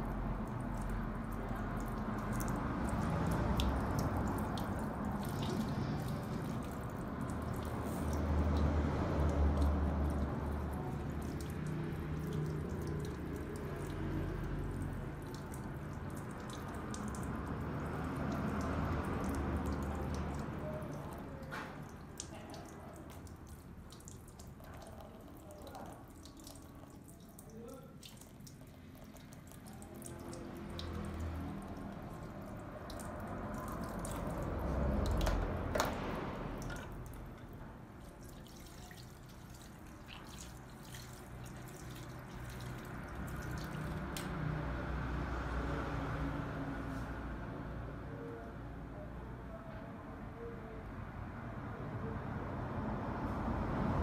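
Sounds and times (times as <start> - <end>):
tap water running and dripping: 0.0 - 46.0.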